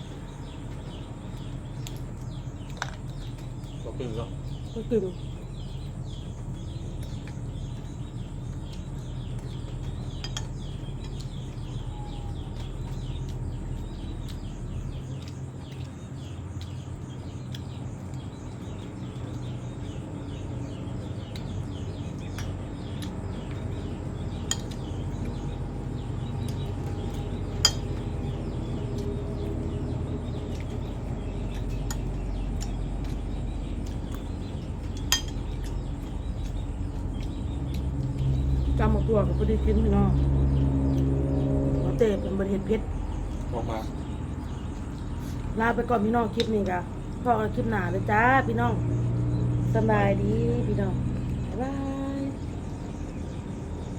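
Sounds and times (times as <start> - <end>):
birds chirping: 0.0 - 53.9
steady low hum: 0.0 - 53.9.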